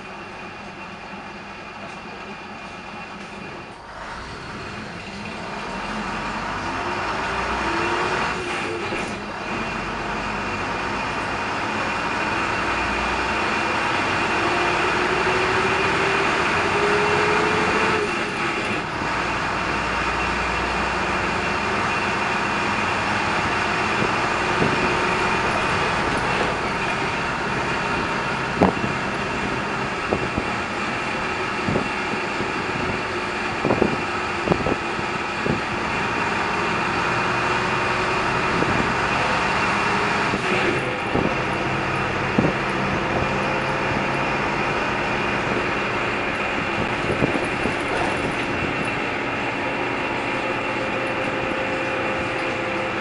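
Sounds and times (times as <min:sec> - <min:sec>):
bus diesel engine: 0:00.0 - 0:53.0
road noise: 0:00.0 - 0:53.0
knocks and rattles of bus body: 0:08.1 - 0:53.0.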